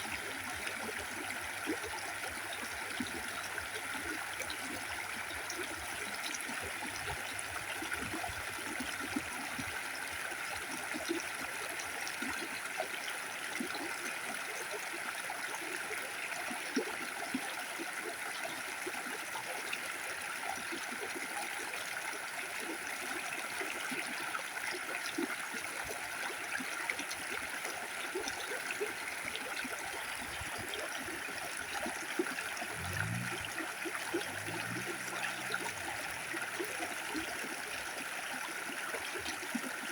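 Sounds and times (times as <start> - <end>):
stream water gurgling: 0.0 - 39.9.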